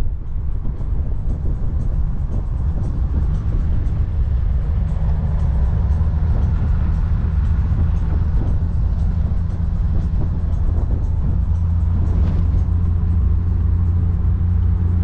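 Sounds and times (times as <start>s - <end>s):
car engine cruising: 0.0s - 15.0s
road noise: 0.0s - 15.0s
wind noise: 0.0s - 15.0s.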